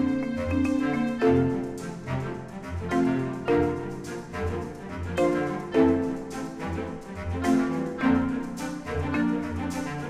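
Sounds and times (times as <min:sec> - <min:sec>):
bowed string music: 0:00.0 - 0:10.0.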